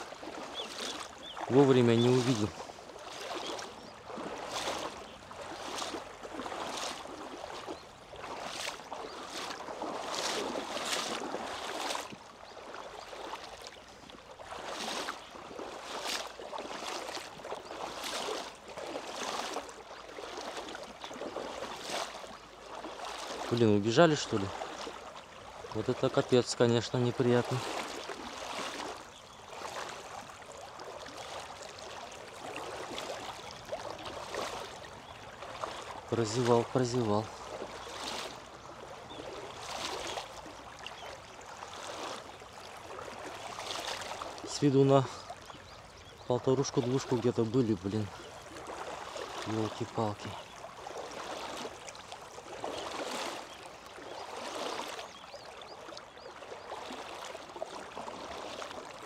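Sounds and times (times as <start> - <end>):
person wading through water: 0.0 - 59.0.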